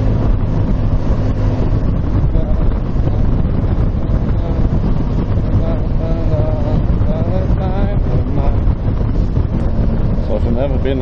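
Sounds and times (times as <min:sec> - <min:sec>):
motorcycle engine running: 0:00.0 - 0:11.0
wind rush over microphone: 0:00.0 - 0:11.0.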